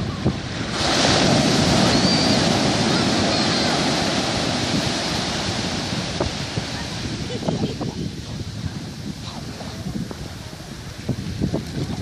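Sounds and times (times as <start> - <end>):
ocean wave breaking: 0.0 - 12.0
wind buffeting microphone: 0.0 - 12.0.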